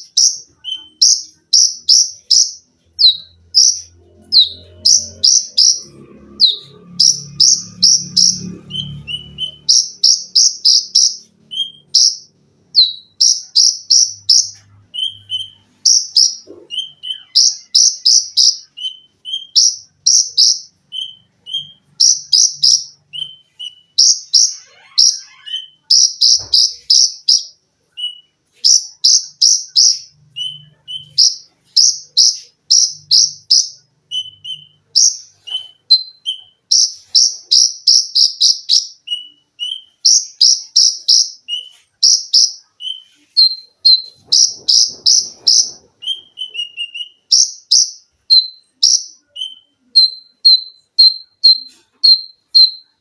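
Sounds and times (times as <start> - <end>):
bird singing shrill notes: 0.0 - 53.0.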